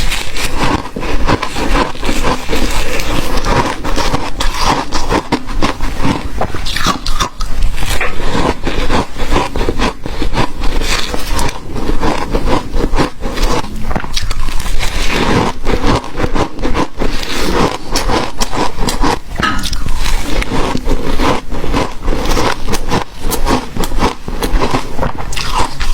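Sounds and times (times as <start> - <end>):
ice being chewed: 0.0 - 25.9.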